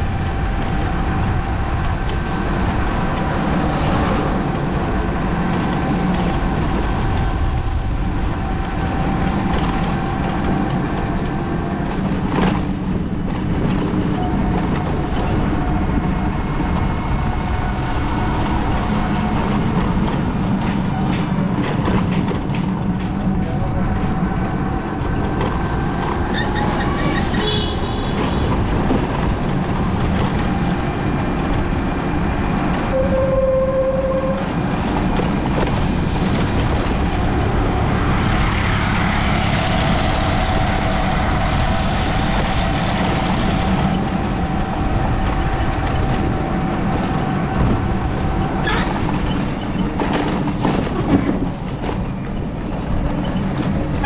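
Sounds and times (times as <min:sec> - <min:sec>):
vehicle driving on paved road: 0:00.0 - 0:54.0.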